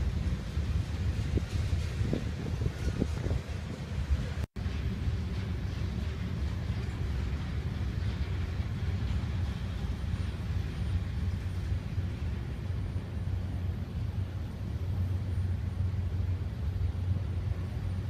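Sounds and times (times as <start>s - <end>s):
distant freight train rumbling: 0.0s - 18.0s.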